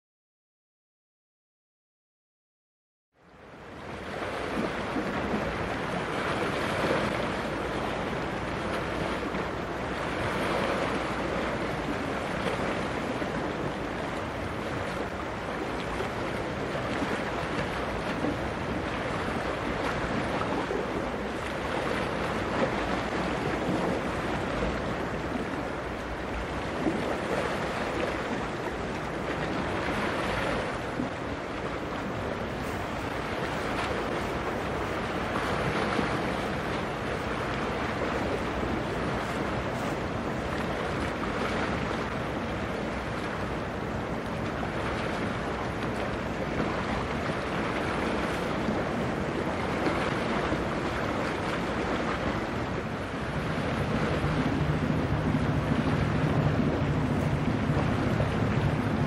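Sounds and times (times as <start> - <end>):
wind: 3.1 - 59.0
sea waves washing: 3.3 - 59.0.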